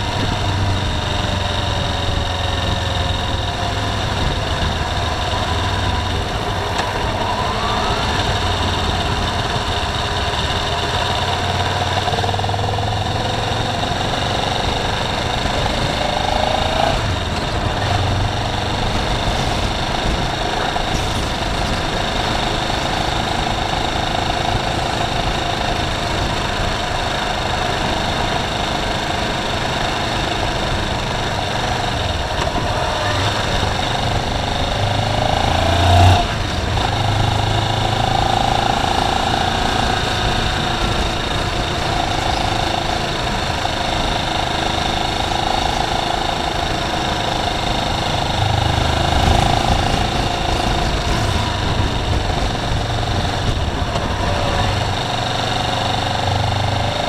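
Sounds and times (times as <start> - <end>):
car engine running: 0.0 - 57.0
tyre and road noise: 0.0 - 57.0.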